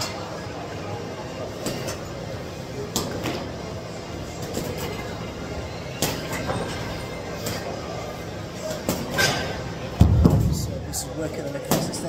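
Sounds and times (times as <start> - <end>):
busy gym room rumble: 0.0 - 12.0.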